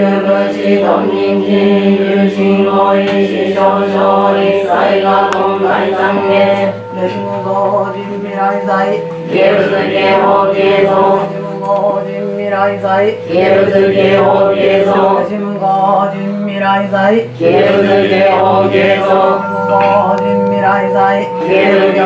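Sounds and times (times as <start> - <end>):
group chanting in unison: 0.0 - 22.0.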